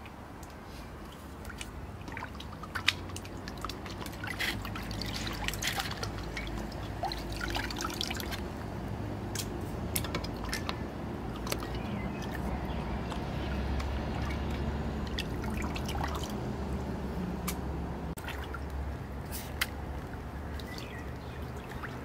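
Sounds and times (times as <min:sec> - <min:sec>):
water dripping and trickling: 0:00.0 - 0:22.0
water splashing in a basin: 0:01.0 - 0:22.0.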